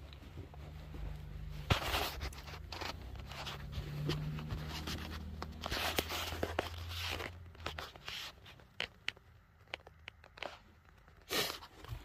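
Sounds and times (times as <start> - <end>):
low steady hum: 0.0 - 12.0
rustling and handling noise: 0.0 - 12.0.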